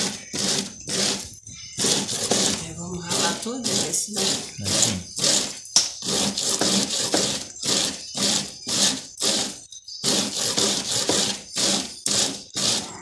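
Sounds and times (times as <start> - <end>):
corn rasping on hand grater: 0.0 - 13.0.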